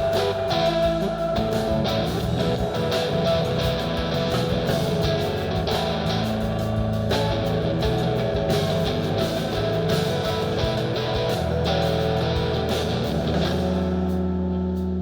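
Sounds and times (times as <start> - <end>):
drum hits: 0.0 - 14.1
bass guitar: 0.0 - 15.0
guitar: 0.0 - 15.0.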